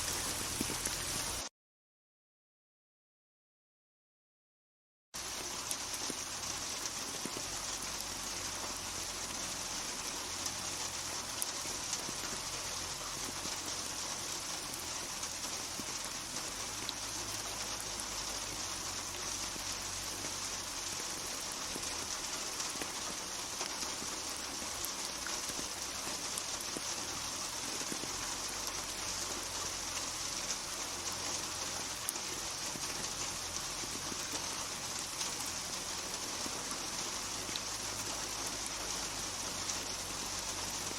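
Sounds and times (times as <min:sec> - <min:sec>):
rain pattering on a surface: 0:00.0 - 0:01.5, 0:05.2 - 0:40.9.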